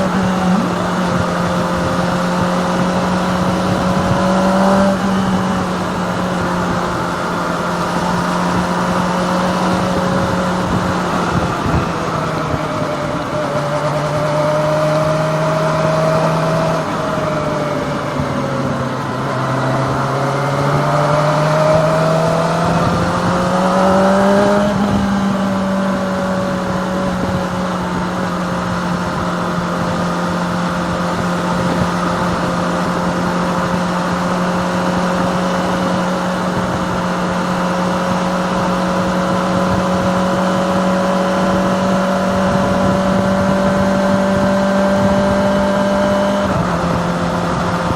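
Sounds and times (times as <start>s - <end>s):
motorcycle engine accelerating: 0.0s - 47.9s
wind and road rush: 0.0s - 47.9s.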